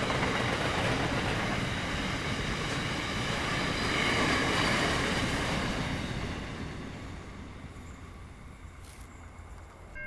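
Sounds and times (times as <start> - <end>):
freight train rolling on track: 0.0 - 10.0.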